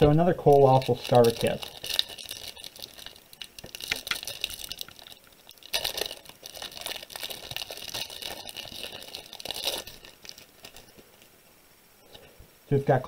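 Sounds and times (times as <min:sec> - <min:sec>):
foil wrapper crinkling and tearing: 0:00.0 - 0:11.4.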